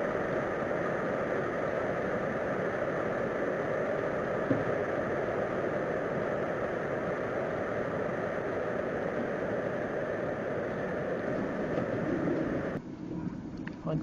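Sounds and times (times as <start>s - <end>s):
drone with held tones: 0.0s - 13.5s
rumbling hiss: 0.0s - 14.0s.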